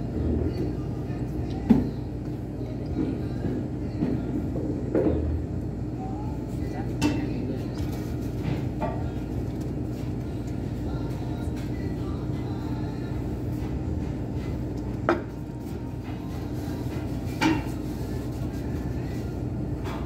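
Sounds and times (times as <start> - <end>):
faint constant hum: 0.0 - 20.0.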